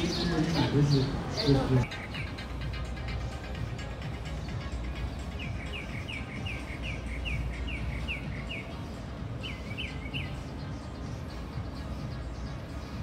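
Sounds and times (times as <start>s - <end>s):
bird chirping: 0.0s - 2.5s, 4.4s - 13.0s.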